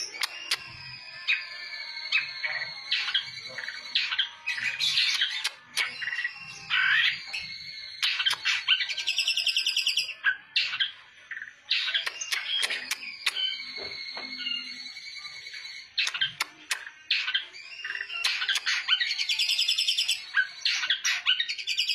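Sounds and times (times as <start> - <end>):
bird singing harsh chattering song: 0.0 - 21.9.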